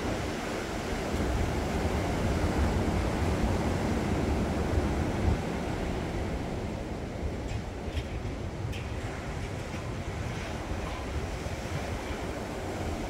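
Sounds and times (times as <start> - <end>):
ocean surf rushing: 0.0 - 13.0
wind gusting on microphone: 0.0 - 13.0.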